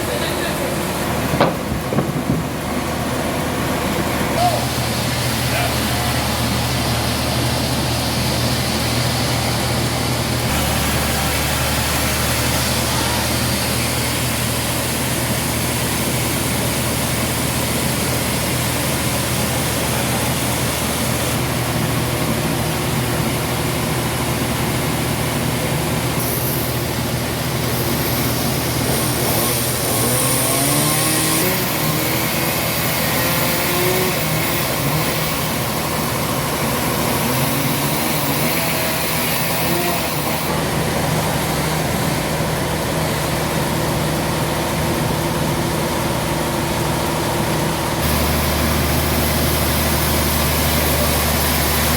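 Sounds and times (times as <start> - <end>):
heavy engine running: 0.0 - 51.9.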